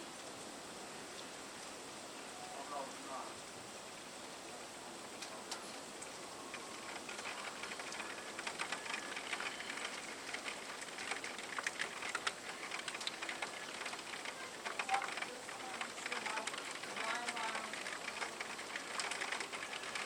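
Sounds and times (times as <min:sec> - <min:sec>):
steady rain falling: 0:00.0 - 0:20.0
raindrops ticking on hard surface: 0:03.4 - 0:20.0.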